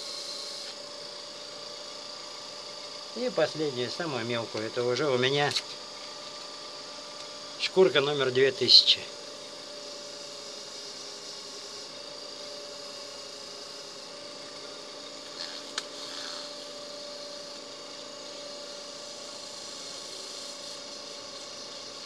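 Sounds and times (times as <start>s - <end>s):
lathe humming: 0.0s - 22.0s.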